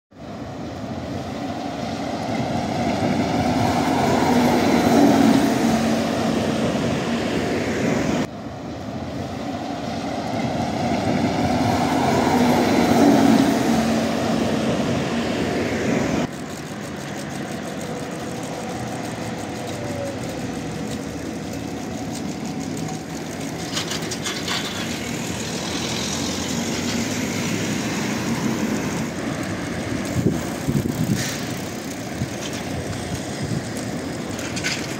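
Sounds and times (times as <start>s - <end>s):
street traffic: 0.1s - 34.9s
trolleybus passing: 0.1s - 34.9s.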